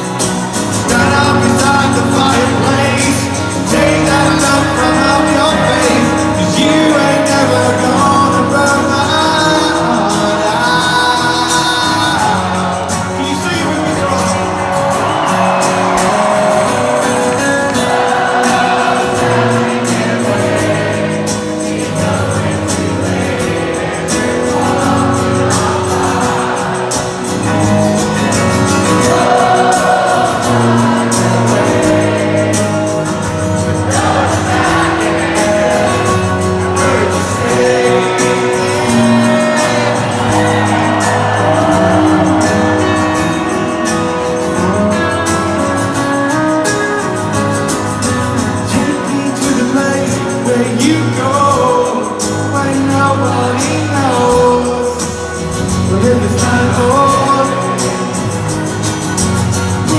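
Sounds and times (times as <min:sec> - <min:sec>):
man singing: 0:00.0 - 0:58.6, 0:59.7 - 0:59.9
live rock band: 0:00.0 - 0:59.9.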